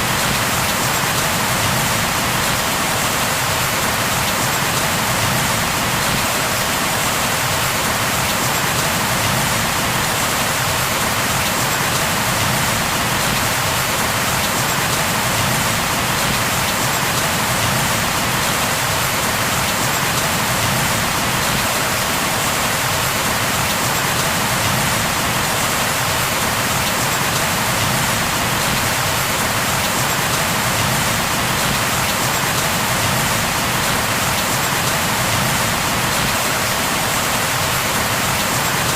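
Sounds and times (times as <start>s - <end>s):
rain falling on a surface: 0.0s - 38.9s.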